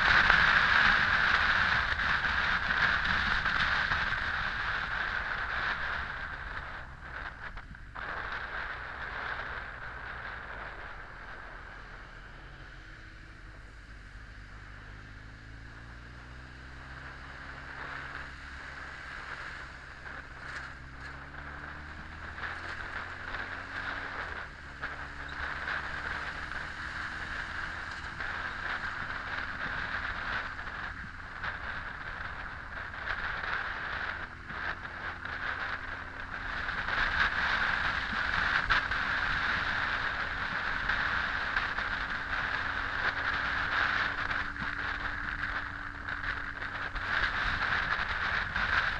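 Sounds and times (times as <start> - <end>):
motorcycle engine accelerating: 0.0 - 48.9
wind noise on microphone: 0.0 - 48.9.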